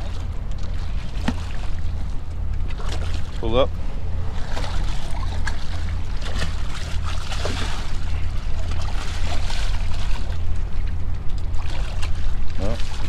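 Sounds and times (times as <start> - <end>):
fish thrashing and splashing: 0.0 - 13.0
steady low rumble: 0.0 - 13.0
water lapping against pilings: 0.0 - 13.0.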